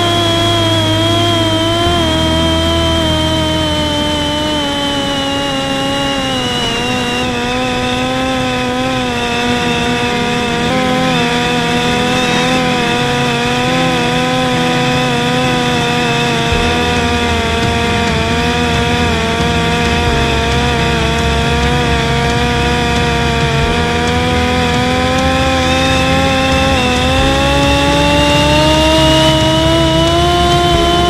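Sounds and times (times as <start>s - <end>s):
drone motor buzzing whine: 0.0s - 31.0s
wind rumble: 0.0s - 31.0s.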